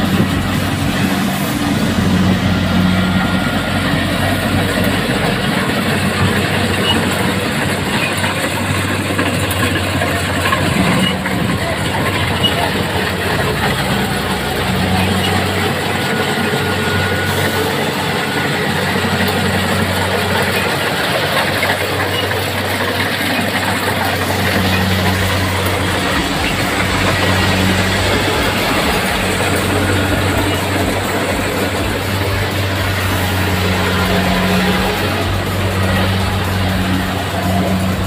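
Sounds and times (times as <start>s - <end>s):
diesel engine hum: 0.0s - 38.0s
whir of threshing machinery: 0.0s - 38.0s.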